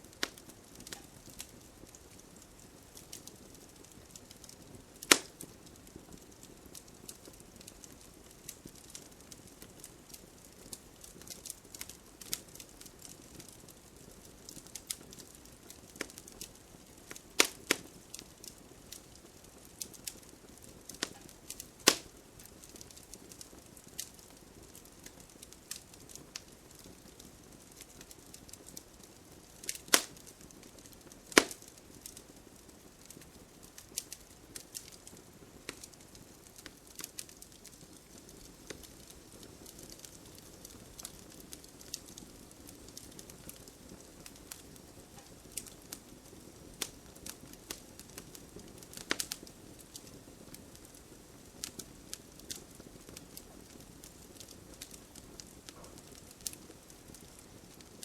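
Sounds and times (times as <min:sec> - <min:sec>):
campfire crackling: 0:00.0 - 0:58.0
loud fire pops: 0:00.1 - 0:13.7, 0:14.3 - 0:58.0.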